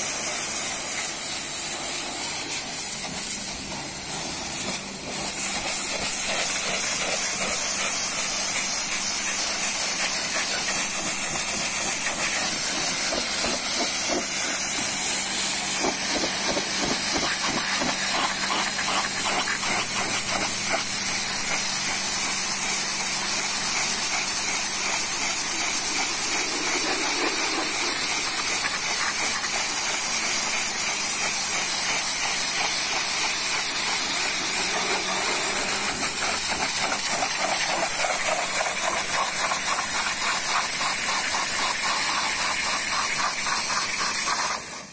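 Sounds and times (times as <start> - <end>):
pressure washer spraying water: 0.0 - 44.9.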